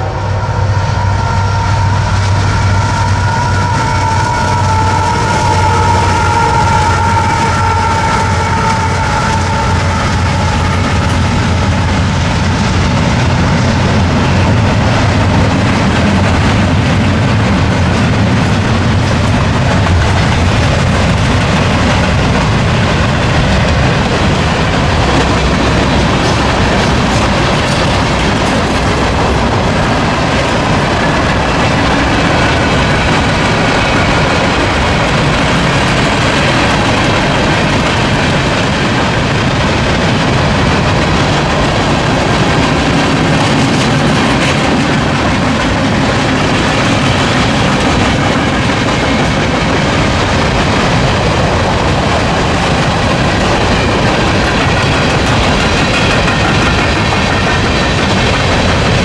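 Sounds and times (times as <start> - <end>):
steel wheels on rail: 0.0 - 59.0.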